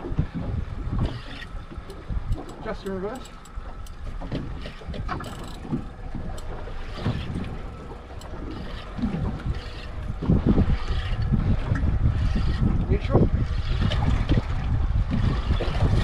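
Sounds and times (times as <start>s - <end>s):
water moving around boat: 0.0s - 16.0s
wind rumbling on microphone: 0.0s - 16.0s.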